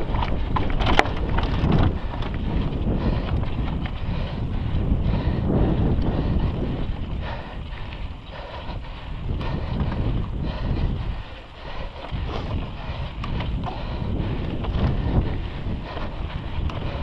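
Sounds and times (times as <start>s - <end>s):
sharp clicks from bike: 0.0s - 4.5s, 5.2s - 17.0s
bike tyres rumbling on dirt: 0.0s - 17.0s
wind buffeting microphone: 0.0s - 17.0s.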